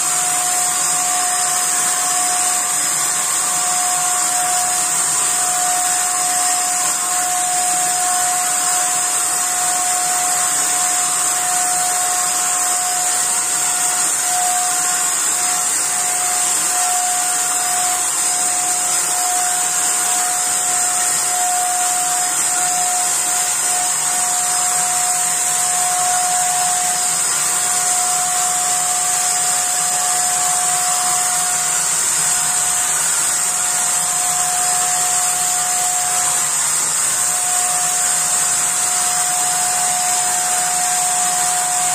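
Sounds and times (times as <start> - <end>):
paint sprayer motor whine: 0.0 - 41.9.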